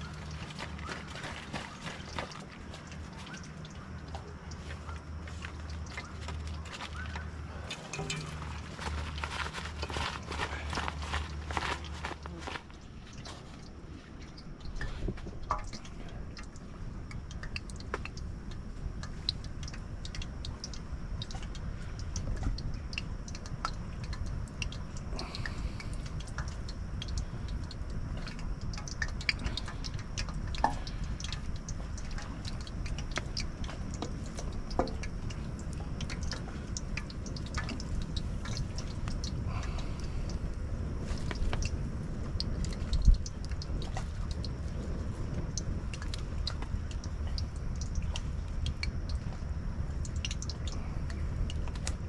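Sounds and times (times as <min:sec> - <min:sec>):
fish frying in hot oil: 0:00.0 - 0:52.0.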